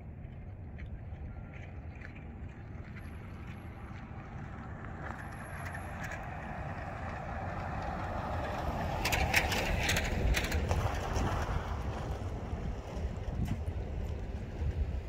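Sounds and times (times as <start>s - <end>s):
vehicle engine and road noise: 0.0s - 15.0s
wind buffeting microphone: 0.0s - 15.0s.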